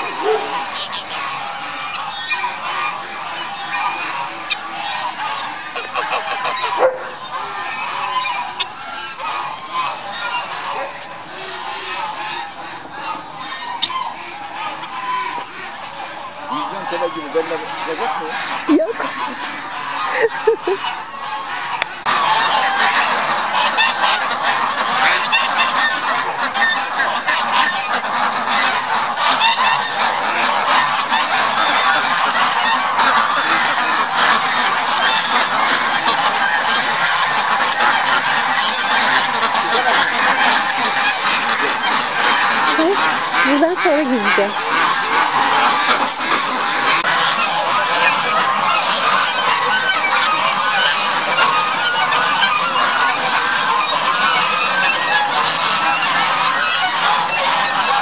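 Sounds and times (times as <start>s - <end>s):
flock of ducks quacking: 0.0s - 58.0s
geese honking: 0.0s - 58.0s.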